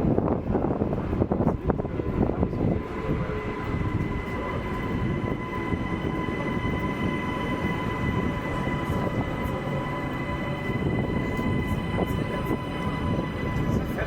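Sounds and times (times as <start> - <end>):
train rumble with high whine: 0.0 - 14.0.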